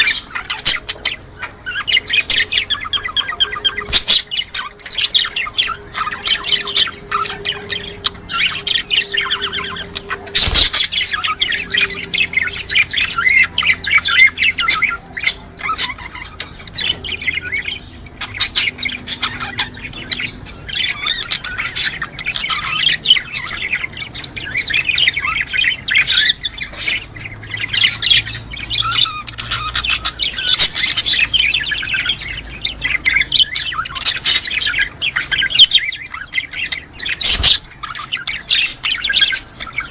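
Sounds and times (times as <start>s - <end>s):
cage birds chirping and squawking: 0.0s - 39.9s.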